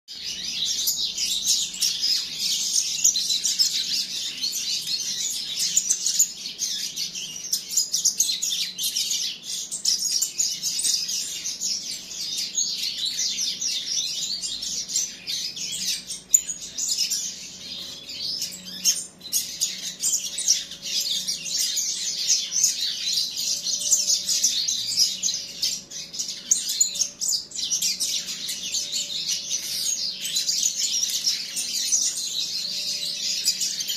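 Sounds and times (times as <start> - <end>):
young songbirds chirping: 0.1 - 33.9.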